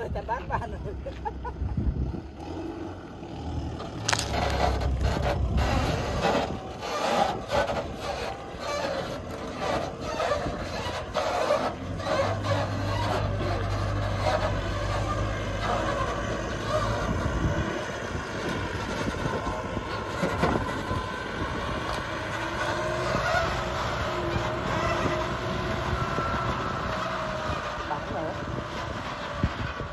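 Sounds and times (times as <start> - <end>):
tractor diesel engine humming: 0.0 - 29.9
trailer knocks and rattles: 3.7 - 29.9.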